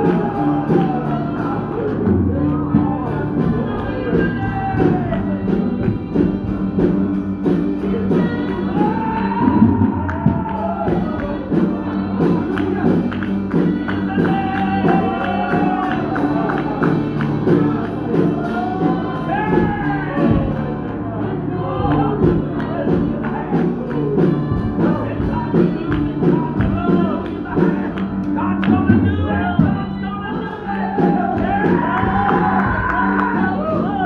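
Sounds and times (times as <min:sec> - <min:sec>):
gospel singing with instruments: 0:00.0 - 0:34.0.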